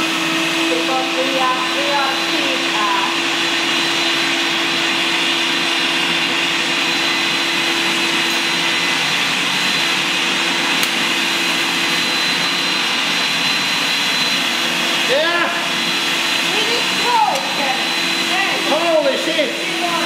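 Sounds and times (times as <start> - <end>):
blender motor running: 0.0 - 20.0.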